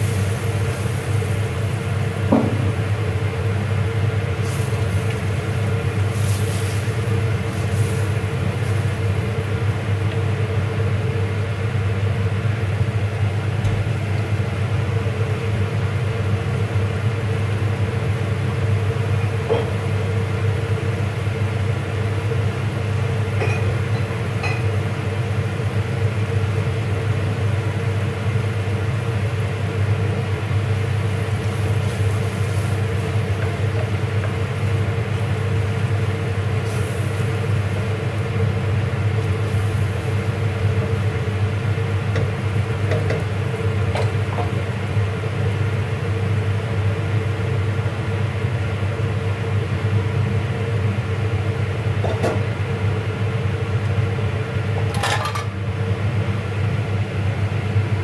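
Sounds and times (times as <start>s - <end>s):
low kitchen rumble: 0.0s - 58.0s
steady hum: 0.0s - 58.0s.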